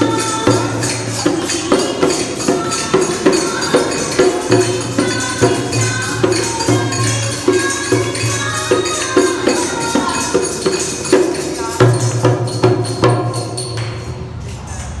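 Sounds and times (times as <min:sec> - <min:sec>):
steady percussion beat: 0:00.0 - 0:15.0.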